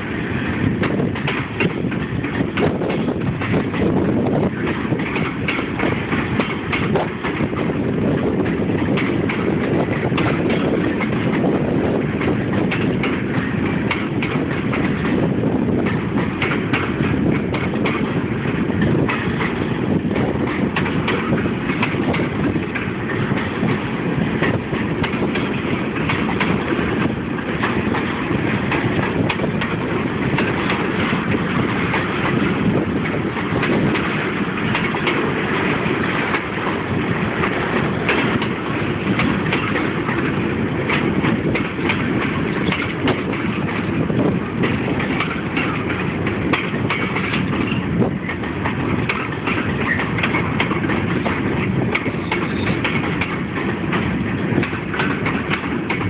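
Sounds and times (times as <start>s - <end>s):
train wheels rumbling on rail: 0.0s - 56.0s
wheel clicks and clanks: 0.4s - 56.0s.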